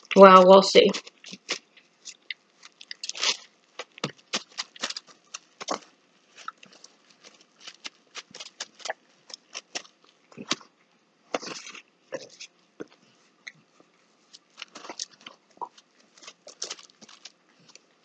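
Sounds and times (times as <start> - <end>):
plastic bag crinkling: 0.0 - 10.7, 14.2 - 18.0.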